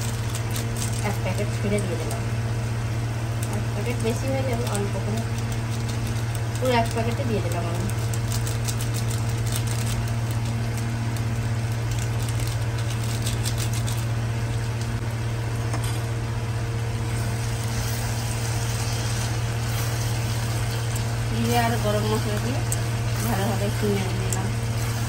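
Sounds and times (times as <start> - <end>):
curry simmering and sizzling: 0.0 - 25.0
low electric hum: 0.0 - 25.0.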